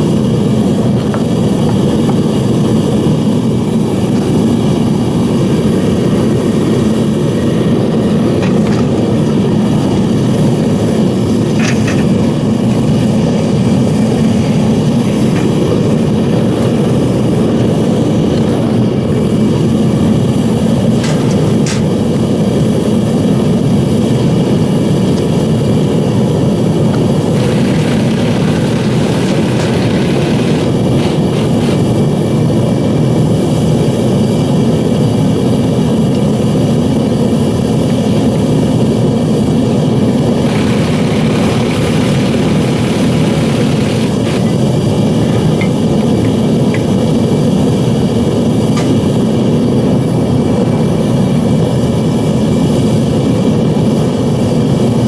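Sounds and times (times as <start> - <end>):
furnace burner and blower rushing: 0.0 - 55.0.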